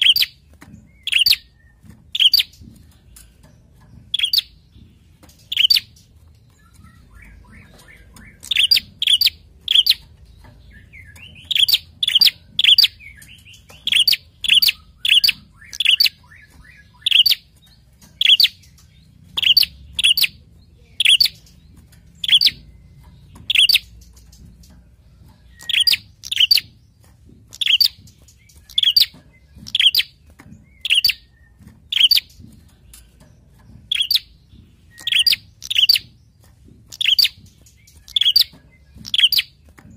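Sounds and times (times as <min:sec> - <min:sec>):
faint bird twitter: 0:00.0 - 0:39.6.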